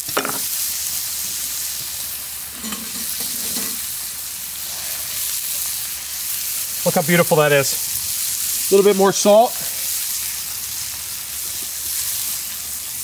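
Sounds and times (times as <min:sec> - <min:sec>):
steak sizzling in a skillet: 0:00.0 - 0:13.0.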